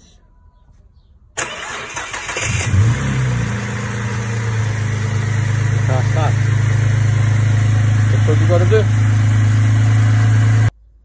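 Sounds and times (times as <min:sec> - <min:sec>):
car engine cranking and starting: 0:01.4 - 0:10.7
car engine idling: 0:01.4 - 0:10.7.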